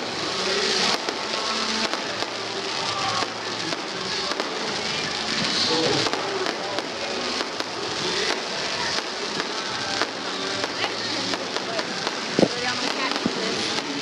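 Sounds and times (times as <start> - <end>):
fireworks crackling and banging: 0.0 - 14.0
music playing: 0.0 - 14.0.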